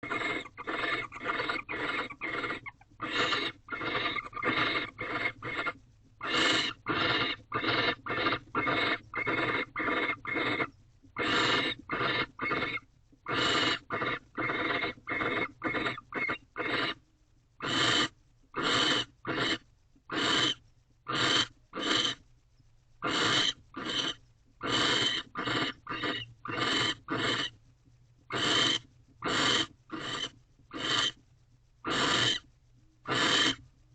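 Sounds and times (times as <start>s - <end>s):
owl rasping hisses: 0.0s - 17.0s, 17.6s - 22.2s, 23.0s - 27.6s, 28.3s - 31.2s, 31.8s - 32.4s, 33.0s - 33.6s.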